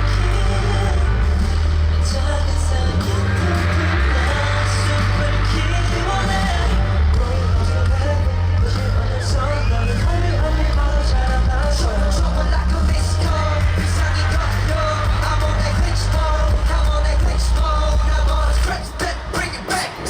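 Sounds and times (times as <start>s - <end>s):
live pop song over loudspeakers: 0.0s - 20.0s.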